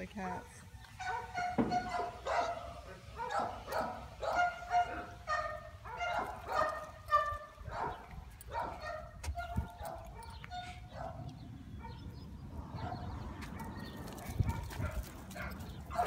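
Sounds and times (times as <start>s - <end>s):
dogs yapping: 0.8s - 16.0s.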